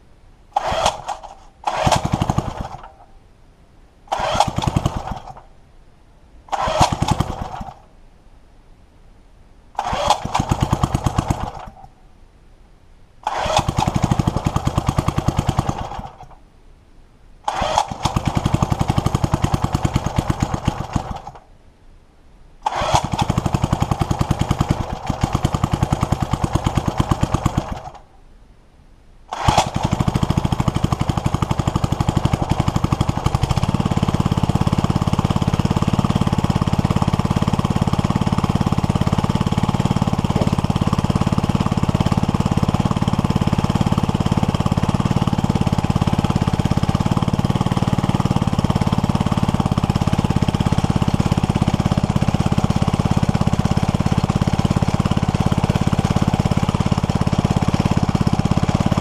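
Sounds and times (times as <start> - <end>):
string trimmer engine starting: 0.5 - 3.1, 4.1 - 5.5, 6.4 - 7.9, 9.7 - 11.9, 13.2 - 16.4, 17.4 - 21.5, 22.6 - 28.1, 29.3 - 59.0.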